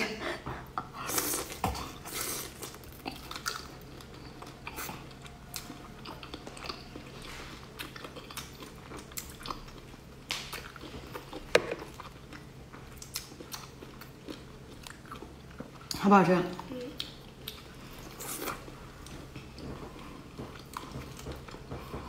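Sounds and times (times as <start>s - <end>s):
chewing with wet smacks: 0.3s - 22.0s.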